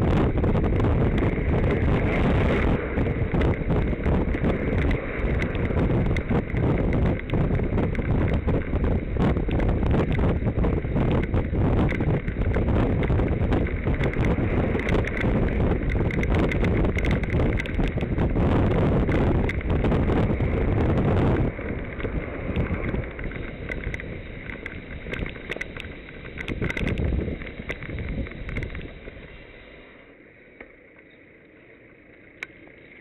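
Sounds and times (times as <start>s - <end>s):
wind rushing over microphone: 0.0s - 29.4s.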